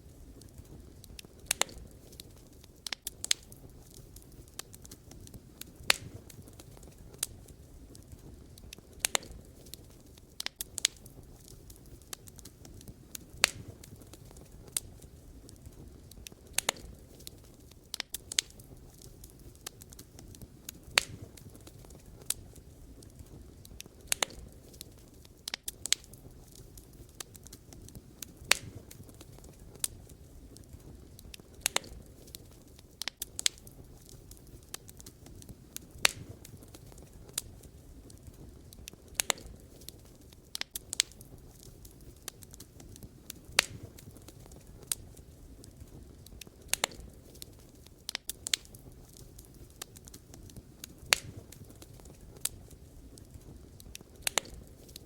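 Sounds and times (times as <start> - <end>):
low fire rumble: 0.0 - 55.0
wood fire crackling and popping: 0.0 - 55.0.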